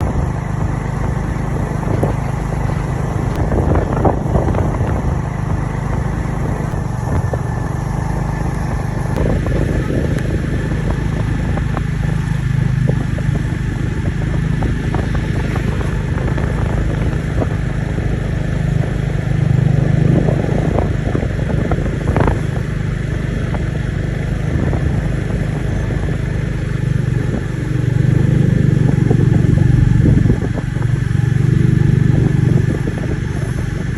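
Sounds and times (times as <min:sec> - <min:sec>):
vehicle engine droning: 0:00.0 - 0:33.9.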